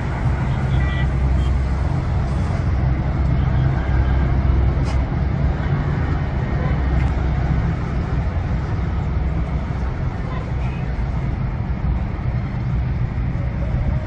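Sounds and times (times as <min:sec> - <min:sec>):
bus diesel engine droning: 0:00.0 - 0:14.0
street traffic noise: 0:00.0 - 0:14.0.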